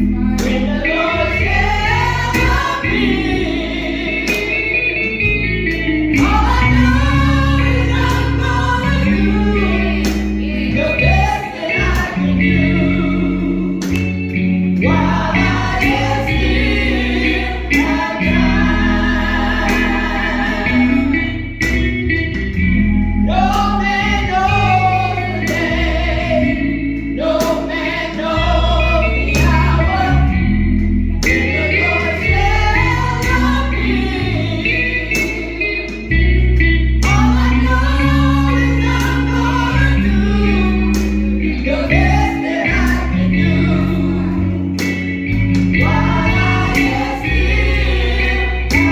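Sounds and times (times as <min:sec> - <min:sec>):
gospel song with singing: 0:00.0 - 0:48.9.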